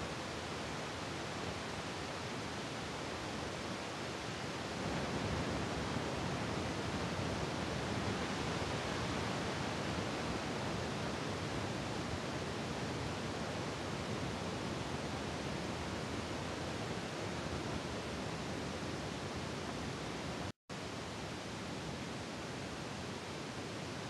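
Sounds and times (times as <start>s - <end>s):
strong storm wind: 0.0s - 20.5s
heavy rain: 0.0s - 24.0s.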